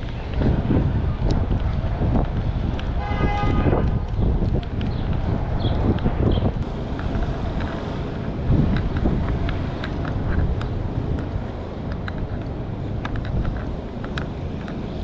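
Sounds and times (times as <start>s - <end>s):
passing traffic rumble: 0.0s - 15.0s
wind buffeting the microphone: 0.0s - 15.0s.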